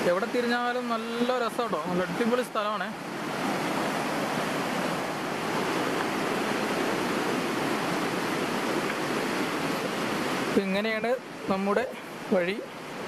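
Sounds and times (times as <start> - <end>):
stream splashing over rocks: 0.0 - 13.0.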